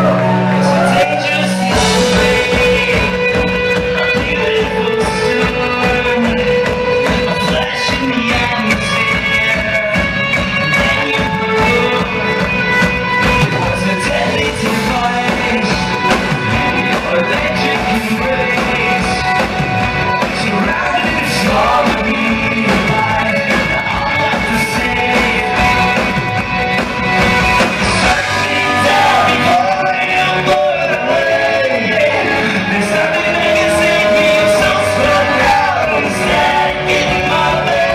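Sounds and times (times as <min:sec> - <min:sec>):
person singing: 0:00.0 - 0:26.4, 0:27.8 - 0:37.9
bass guitar: 0:00.0 - 0:37.9
distorted electric guitars: 0:00.0 - 0:37.9
pounding drums: 0:00.0 - 0:37.9.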